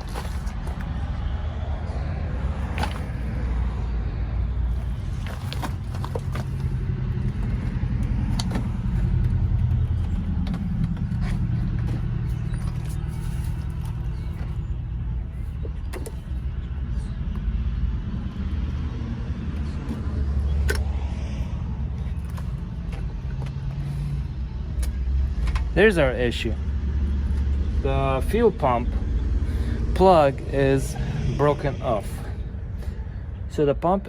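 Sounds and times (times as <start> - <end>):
low mechanical rumble: 0.0 - 34.0.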